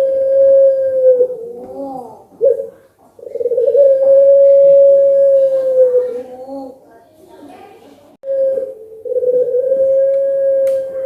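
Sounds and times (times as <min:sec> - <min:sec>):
dove cooing: 0:00.0 - 0:06.8, 0:08.2 - 0:11.0.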